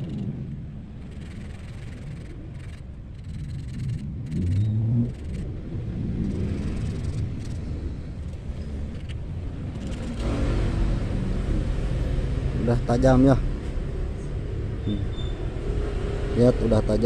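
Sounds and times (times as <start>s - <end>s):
low rumble with humming note: 0.0s - 17.0s.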